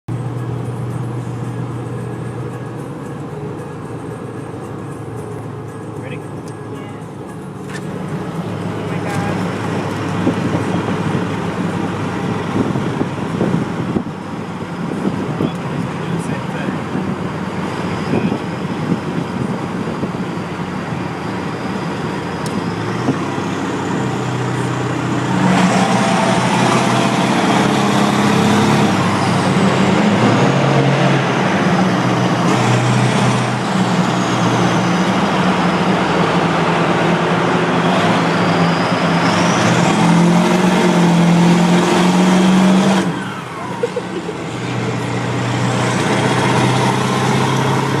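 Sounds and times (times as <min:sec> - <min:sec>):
high turbo whine: 0:00.1 - 0:48.0
loud diesel engine in tunnel: 0:00.1 - 0:48.0.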